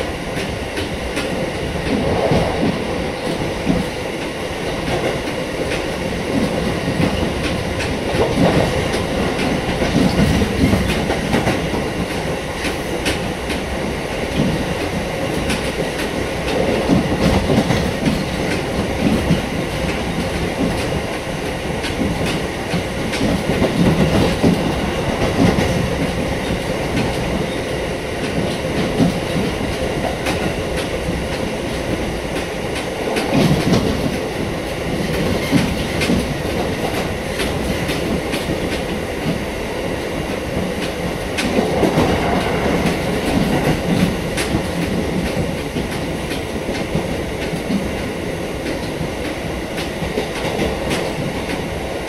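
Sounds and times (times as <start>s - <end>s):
electric train rumbling: 0.0s - 52.0s.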